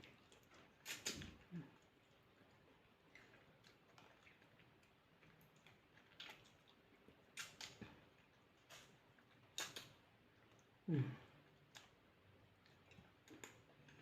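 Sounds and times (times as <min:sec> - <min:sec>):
mouth clicks and smacks: 0:00.0 - 0:14.0
person chewing: 0:00.0 - 0:14.0.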